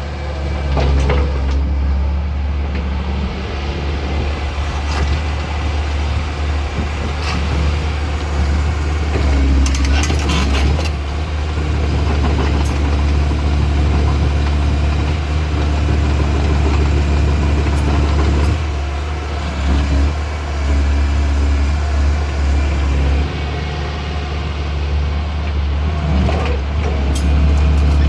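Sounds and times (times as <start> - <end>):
excavator diesel engine humming: 0.0 - 28.0.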